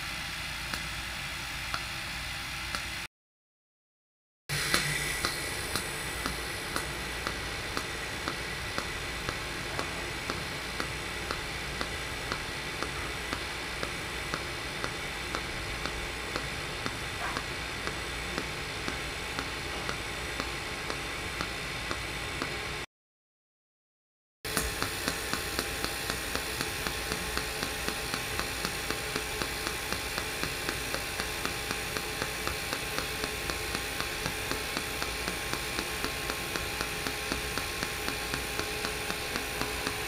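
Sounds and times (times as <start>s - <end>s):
welding arc hissing: 0.0s - 3.1s, 4.5s - 22.9s, 24.5s - 40.0s
light regular ticking: 4.7s - 22.6s, 24.5s - 40.0s.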